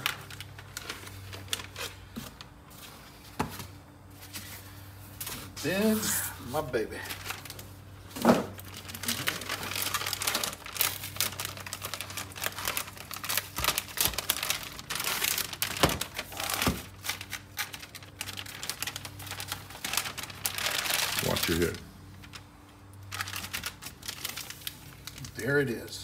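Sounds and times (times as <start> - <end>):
plastic bag crinkling: 0.0 - 2.5, 5.5 - 25.6.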